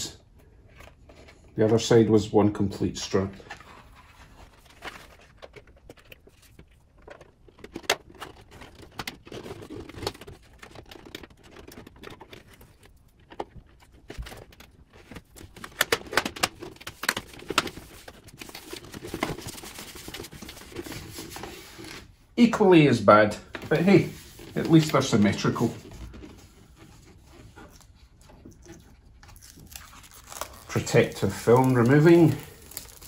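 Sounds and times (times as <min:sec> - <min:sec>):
rustling: 0:03.4 - 0:22.2, 0:23.5 - 0:33.0.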